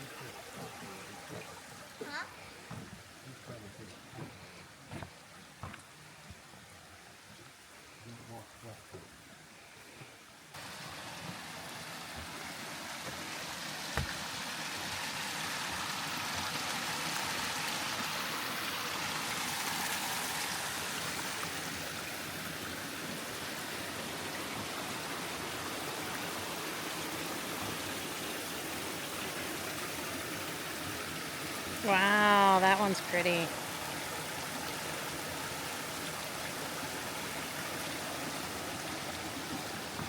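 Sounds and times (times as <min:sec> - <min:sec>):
water rushing down small falls: 0:00.0 - 0:40.0.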